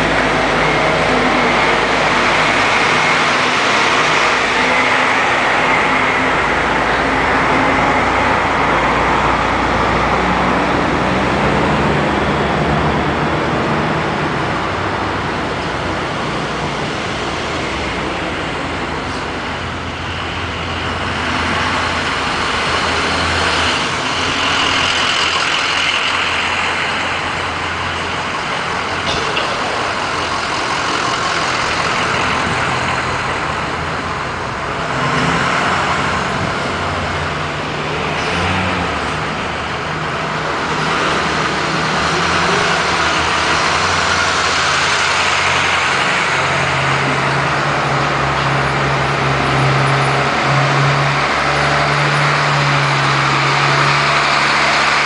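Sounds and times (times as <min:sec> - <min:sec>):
engine hum: 0:00.0 - 0:55.0
road noise from traffic: 0:00.0 - 0:55.0.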